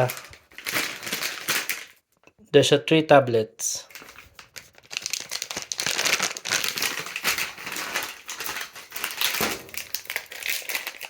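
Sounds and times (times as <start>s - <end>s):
crinkly packaging rustling: 0.0s - 2.2s, 3.8s - 11.0s.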